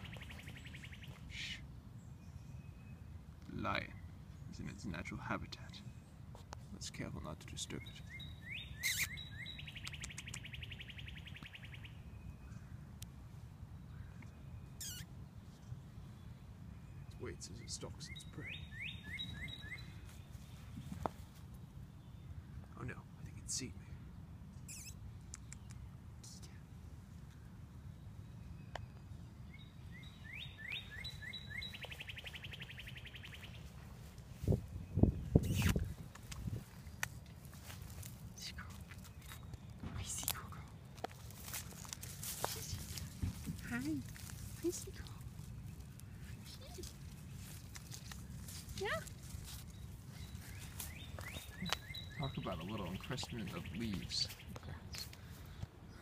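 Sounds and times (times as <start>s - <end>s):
songbird singing a trill: 0.0s - 13.1s, 13.7s - 23.8s, 24.6s - 26.6s, 27.3s - 36.7s, 37.6s - 56.0s.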